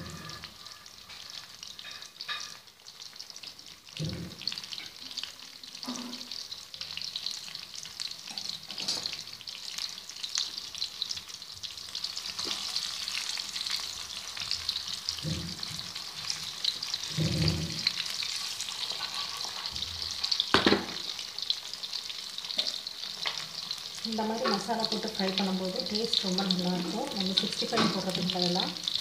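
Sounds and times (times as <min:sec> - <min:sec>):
meat deep-frying in oil: 0:00.0 - 0:29.0.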